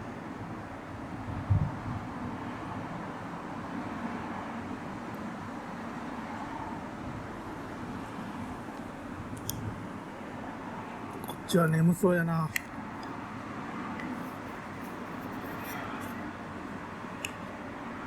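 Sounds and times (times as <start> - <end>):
distant road traffic hum: 0.0 - 18.0.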